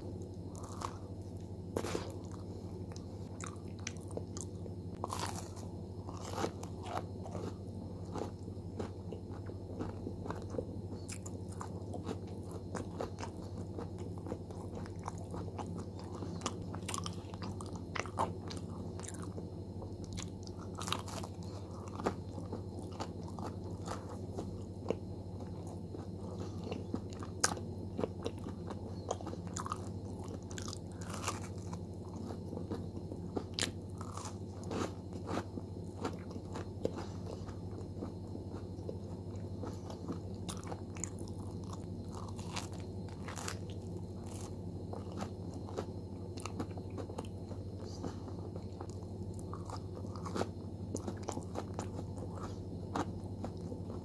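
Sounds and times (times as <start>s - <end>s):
pastry crunching: 4.9s - 19.3s, 20.0s - 54.0s.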